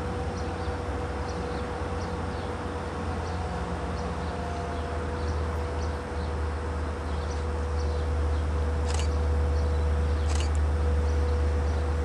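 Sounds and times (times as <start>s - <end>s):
steady hum: 0.0s - 4.3s, 5.0s - 12.0s
distant diesel locomotive rumble: 0.0s - 12.0s.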